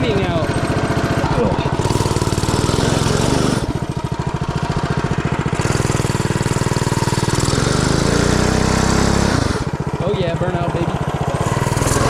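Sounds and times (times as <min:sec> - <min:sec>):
small engine chugging and revving: 0:00.0 - 0:12.0.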